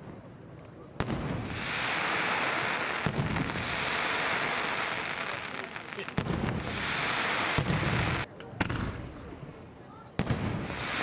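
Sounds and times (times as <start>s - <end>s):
continuous loud hiss: 0.0s - 11.0s
fireworks bangs: 1.0s - 9.3s, 10.1s - 11.0s.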